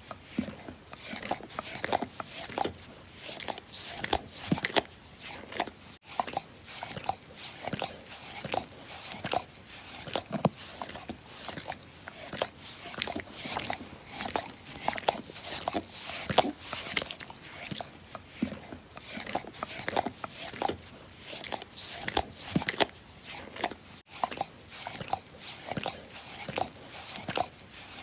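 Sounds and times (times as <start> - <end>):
dog licking: 0.4 - 28.0.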